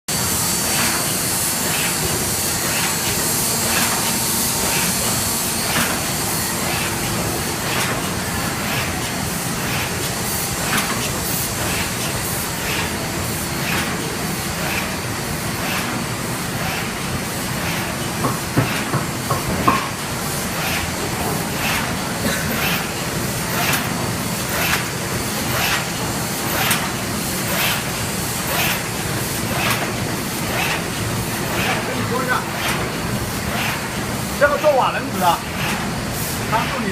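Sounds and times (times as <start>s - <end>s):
machine running with hiss: 0.1s - 36.9s.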